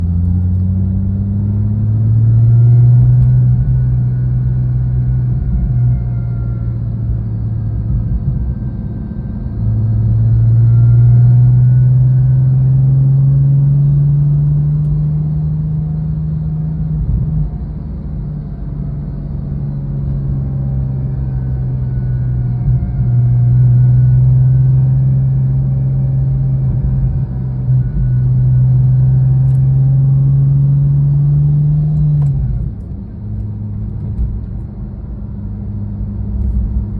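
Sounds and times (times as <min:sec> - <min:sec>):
car engine running: 0:00.0 - 0:36.9.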